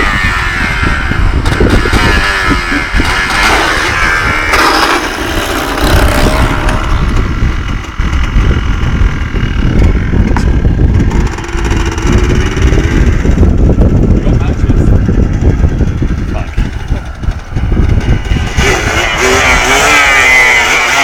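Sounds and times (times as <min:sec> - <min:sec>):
quad engine revving: 0:00.0 - 0:21.0.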